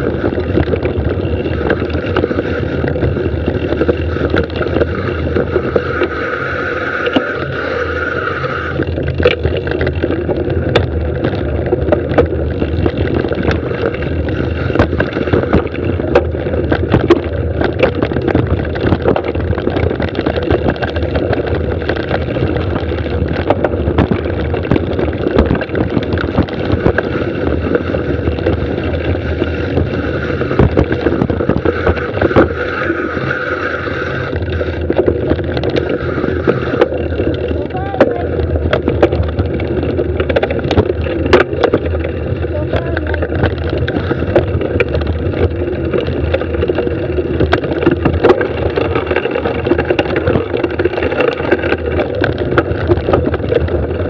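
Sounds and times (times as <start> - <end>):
rushing air: 0.0 - 19.1, 20.4 - 52.0
bike rattling over bumps: 0.0 - 54.0
tyres rumbling on dirt: 0.0 - 54.0.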